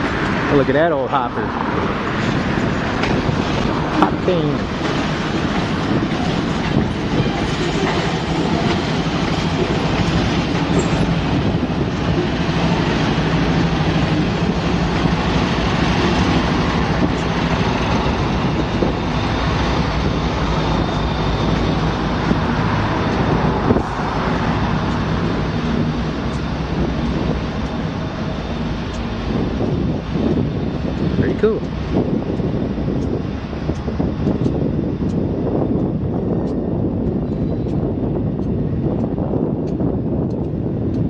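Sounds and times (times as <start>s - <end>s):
diesel locomotive drone: 0.0s - 41.0s
freight cars rumbling: 0.0s - 41.0s
wheels clacking over rail joints: 0.0s - 41.0s.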